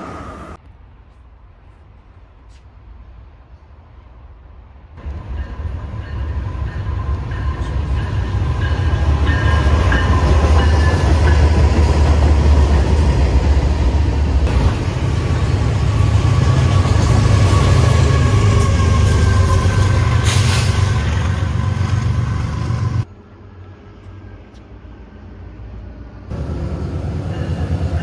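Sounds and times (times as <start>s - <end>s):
diesel locomotive engine rumble: 0.0s - 28.0s.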